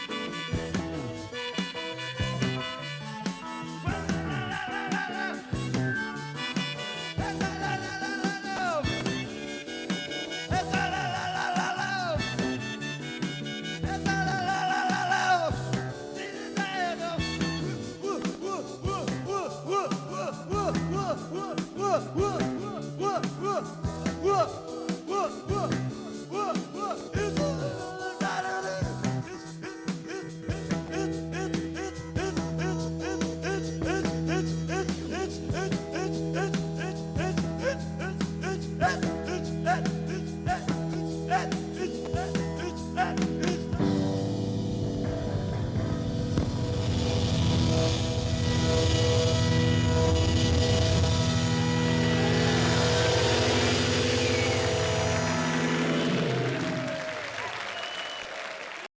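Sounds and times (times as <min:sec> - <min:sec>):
bass guitar: 0:00.0 - 0:56.9
keyboard swooping notes: 0:00.0 - 0:56.9
live rock band playing: 0:00.0 - 0:56.9
drums: 0:00.0 - 0:58.2.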